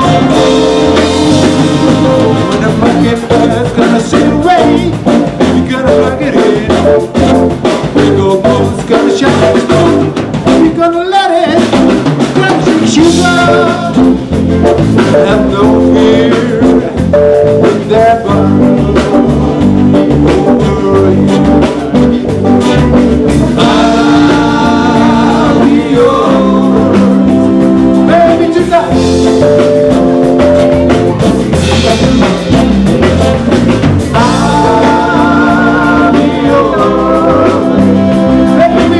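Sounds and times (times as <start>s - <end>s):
person singing: 0.0s - 14.3s, 14.9s - 38.9s
band playing a song: 0.0s - 38.9s
drum kit: 0.0s - 38.9s.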